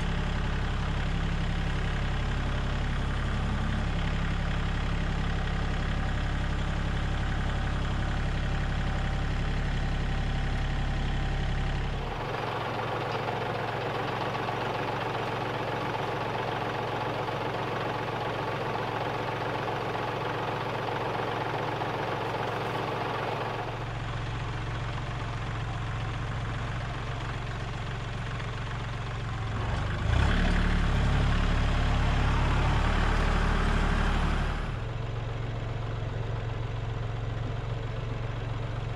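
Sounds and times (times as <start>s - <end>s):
diesel tractor engine idling: 0.0s - 38.9s.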